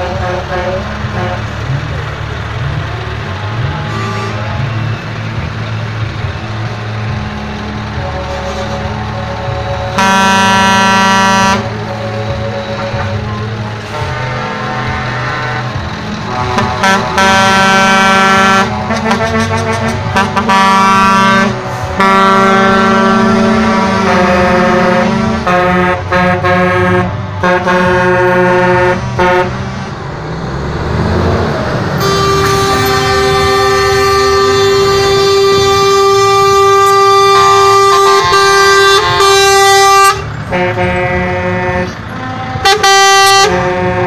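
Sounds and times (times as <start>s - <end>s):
truck air horn blasts: 0.0s - 1.6s, 3.8s - 5.0s, 8.0s - 13.2s, 13.8s - 29.7s, 32.0s - 44.0s
diesel truck engines: 0.0s - 44.0s.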